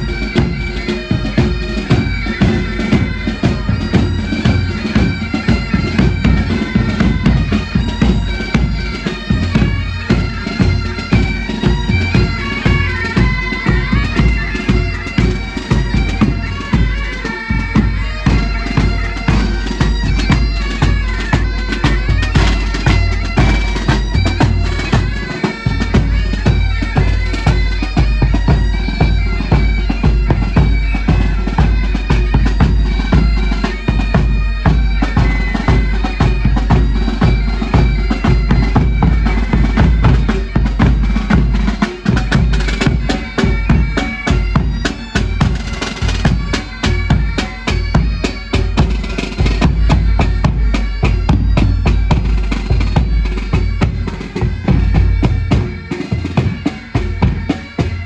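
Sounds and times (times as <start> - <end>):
bagpipes playing melody: 0.0 - 58.0
drums beating time: 0.0 - 58.0.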